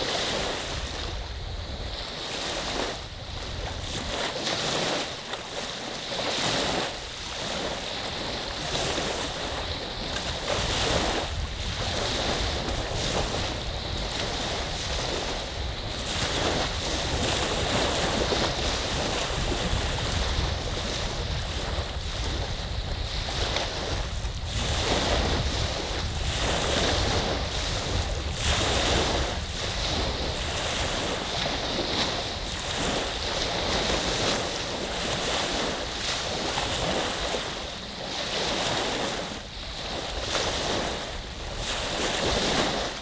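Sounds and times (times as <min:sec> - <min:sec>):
waves rolling onto beach: 0:00.0 - 0:43.0
wind rumble on microphone: 0:00.0 - 0:43.0.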